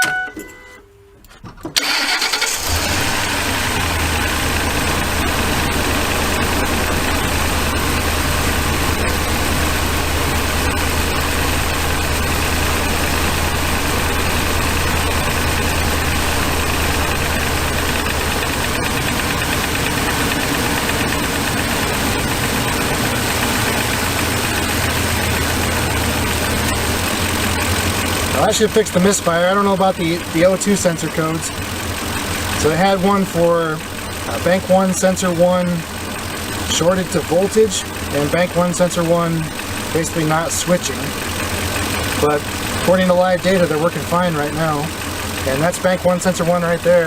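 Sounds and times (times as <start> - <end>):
engine starting and idling: 1.7 - 47.0.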